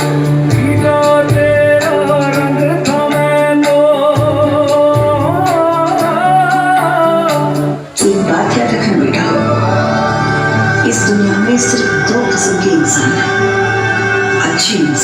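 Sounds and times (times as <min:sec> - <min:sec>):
person singing: 0:00.0 - 0:15.0
steady musical accompaniment: 0:00.0 - 0:15.0.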